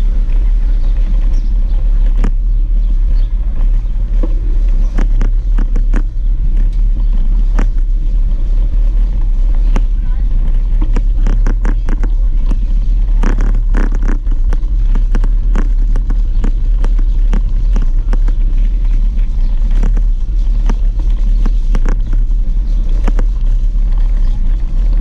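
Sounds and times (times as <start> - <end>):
bicycle frame rattles and knocks: 0.0 - 25.0
bicycle rolling over cobblestones: 0.0 - 25.0.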